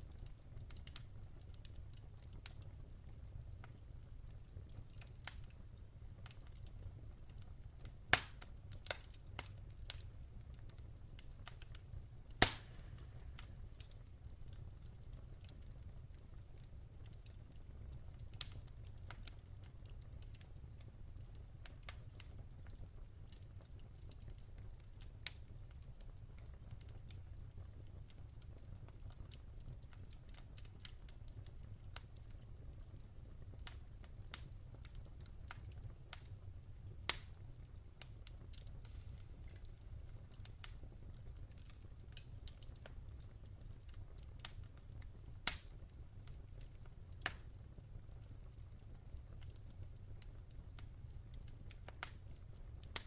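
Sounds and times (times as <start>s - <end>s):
low rumble of flame: 0.0s - 53.0s
wood crackling and popping: 0.0s - 53.0s.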